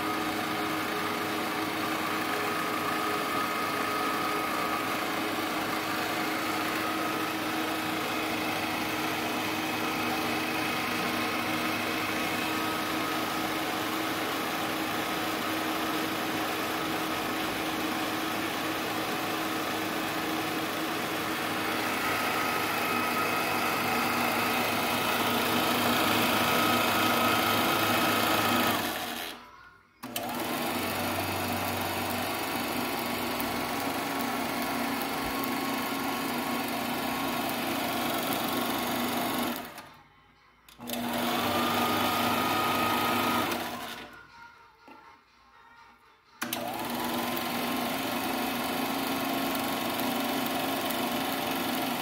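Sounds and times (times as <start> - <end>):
projector motor whining: 0.0 - 29.4, 30.0 - 40.0, 40.7 - 44.2, 46.4 - 52.0.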